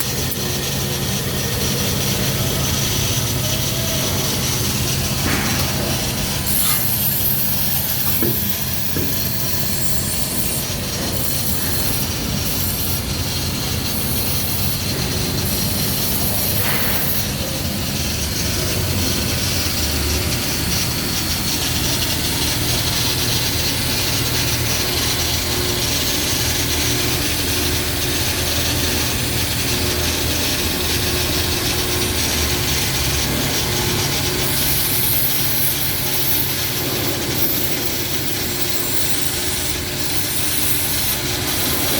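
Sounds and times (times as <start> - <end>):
low machinery hum: 0.0 - 41.9
welding arc hiss: 0.0 - 41.9.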